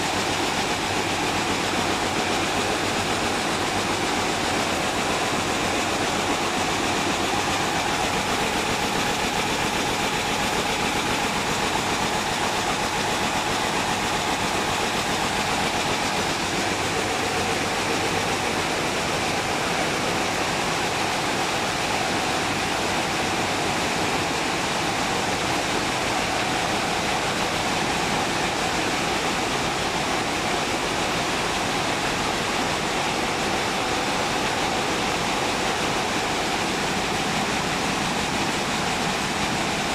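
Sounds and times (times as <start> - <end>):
weaving looms running: 0.0 - 39.9.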